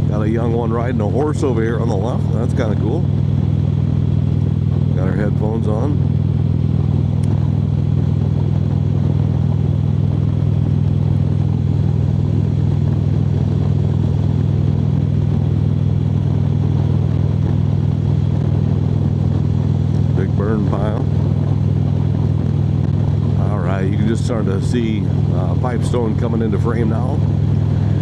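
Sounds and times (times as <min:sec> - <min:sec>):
motorcycle engine running steadily: 0:00.0 - 0:28.0.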